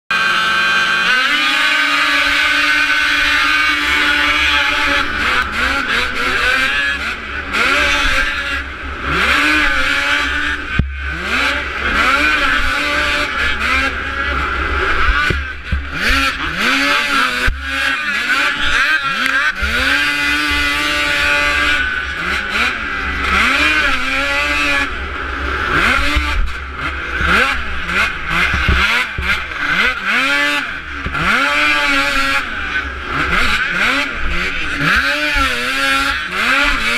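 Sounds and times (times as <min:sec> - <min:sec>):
snowmobile engine revving: 0:00.1 - 0:36.9.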